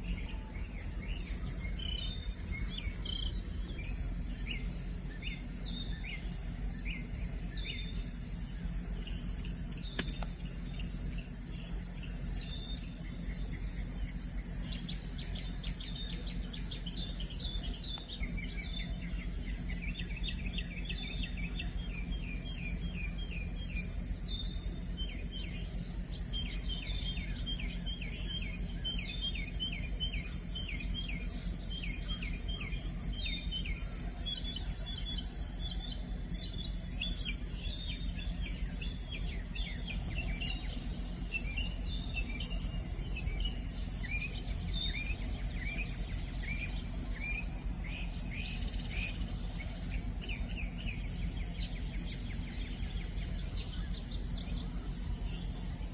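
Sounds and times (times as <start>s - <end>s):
birds chirping: 0.0s - 55.9s
high-pitched insect chorus: 0.0s - 55.9s.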